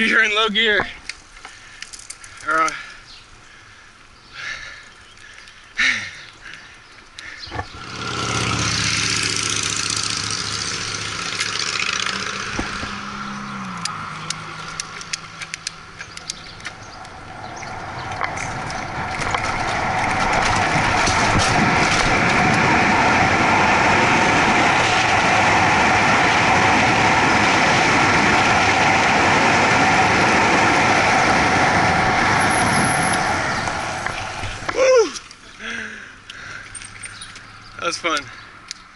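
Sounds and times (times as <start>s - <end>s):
wind and tyre rush: 0.0s - 35.8s
vehicle engine hum: 1.1s - 38.9s.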